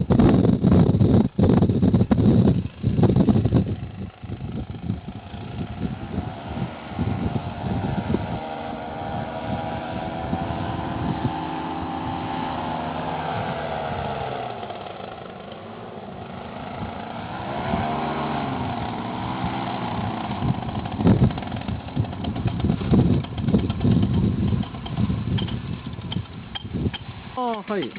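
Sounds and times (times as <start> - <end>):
wind buffeting microphone: 0.0 - 27.4
small aircraft engine and propeller: 0.0 - 27.9.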